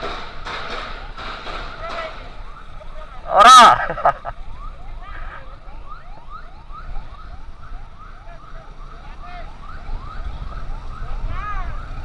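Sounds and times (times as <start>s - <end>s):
road and wind rumble: 0.0s - 12.0s
emergency siren yelping: 2.2s - 12.0s.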